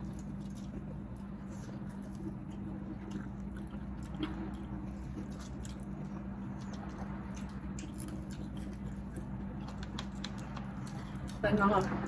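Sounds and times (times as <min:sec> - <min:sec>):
chewing with wet mouth clicks: 0:00.0 - 0:11.6
low steady hum: 0:00.0 - 0:12.0.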